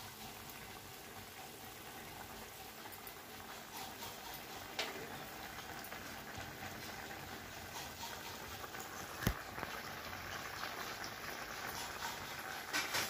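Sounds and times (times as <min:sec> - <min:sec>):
curry bubbling in a pan: 0:00.0 - 0:13.0.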